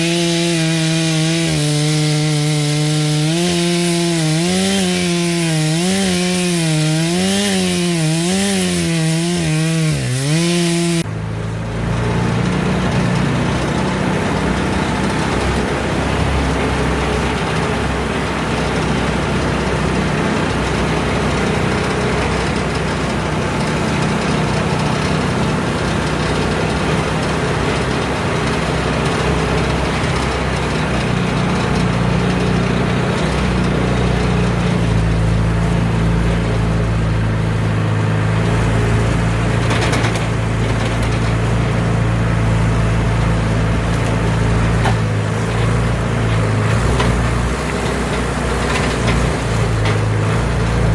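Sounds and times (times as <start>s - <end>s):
chainsaw cutting wood: 0.0s - 11.1s, 20.0s - 50.9s
engine running steadily: 0.0s - 50.9s.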